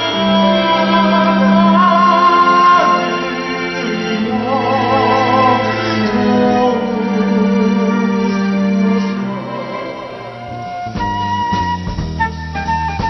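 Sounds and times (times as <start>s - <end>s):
man singing with vibrato: 0.0s - 10.8s
sustained instrumental accompaniment: 0.0s - 13.0s.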